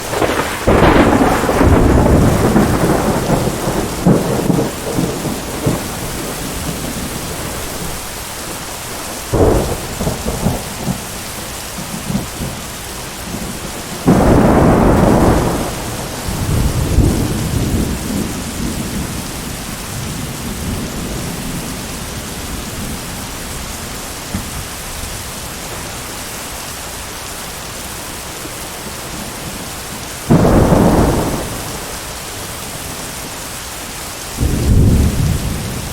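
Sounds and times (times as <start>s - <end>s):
thunder rumbling and cracking: 0.0s - 26.7s, 28.9s - 33.4s, 34.3s - 35.9s
heavy rain hiss: 0.0s - 35.9s.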